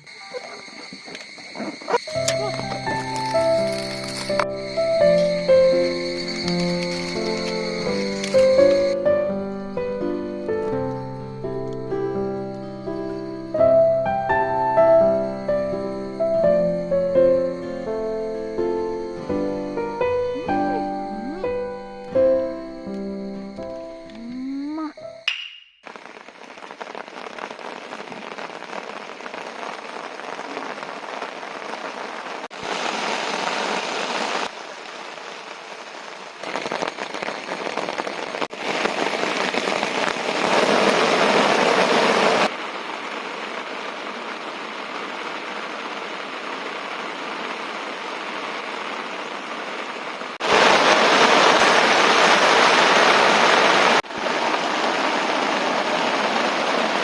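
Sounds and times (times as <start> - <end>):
rain hiss: 0.0 - 24.9, 25.8 - 57.0.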